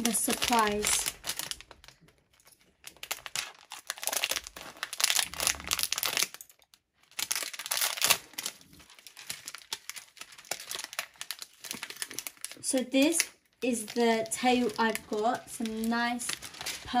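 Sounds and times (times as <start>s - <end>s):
foil packet crinkling: 0.0s - 17.0s.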